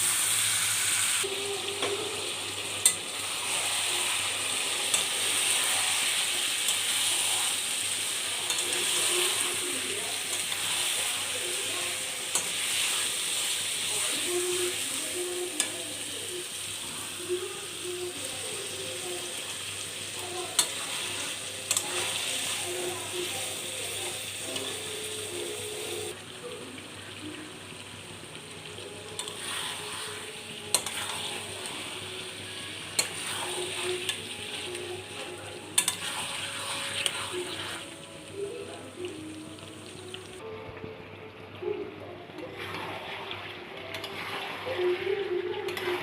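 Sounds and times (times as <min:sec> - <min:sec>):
curry sizzling in a pan: 0:00.0 - 0:46.0.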